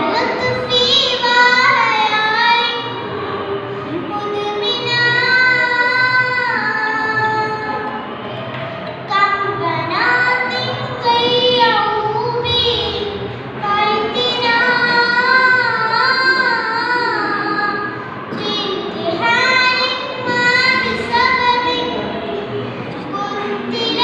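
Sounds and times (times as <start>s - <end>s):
girl singing a melodic recitation: 0.0s - 8.0s, 8.6s - 24.0s.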